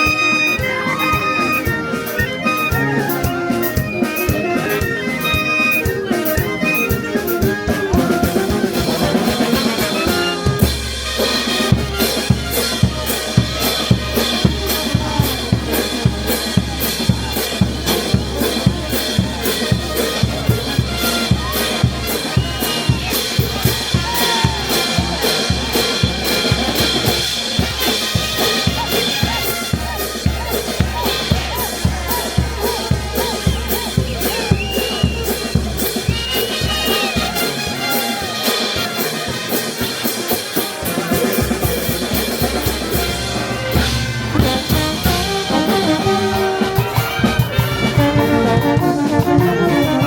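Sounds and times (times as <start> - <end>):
brass band playing: 0.0 - 50.0
bass drum beat: 2.8 - 38.2, 40.8 - 50.0.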